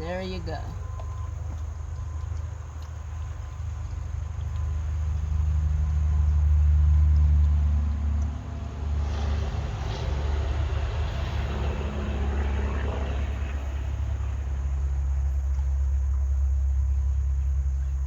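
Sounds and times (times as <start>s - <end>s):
low rumble: 0.0s - 18.0s
oil pouring through a funnel: 0.0s - 18.0s.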